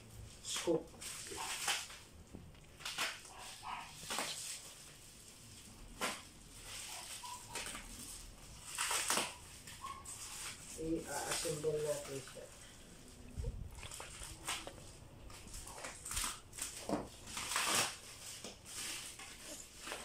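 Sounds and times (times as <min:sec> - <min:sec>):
plastic wrap crinkling and tearing: 0:00.1 - 0:20.0.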